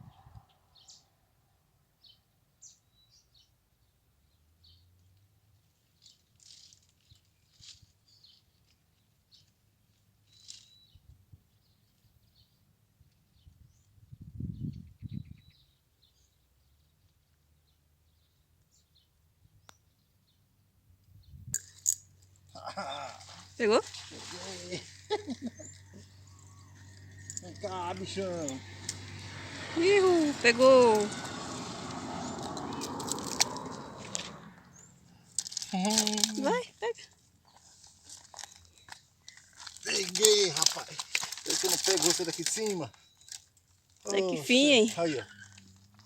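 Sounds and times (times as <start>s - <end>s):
small birds chirping: 2.0s - 20.5s, 21.1s - 46.0s.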